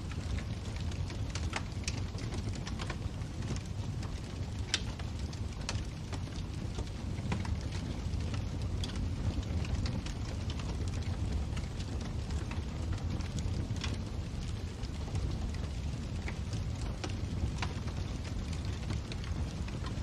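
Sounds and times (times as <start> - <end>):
low steady rumble: 0.0 - 20.0
wood fire crackling and popping: 0.0 - 20.0.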